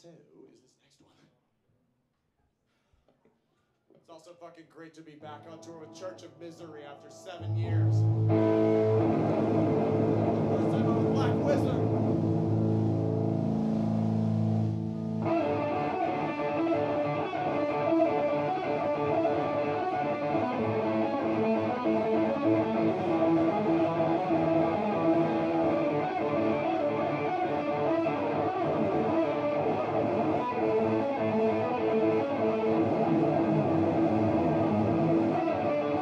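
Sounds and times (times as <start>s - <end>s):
distorted electric guitar: 5.6s - 36.0s.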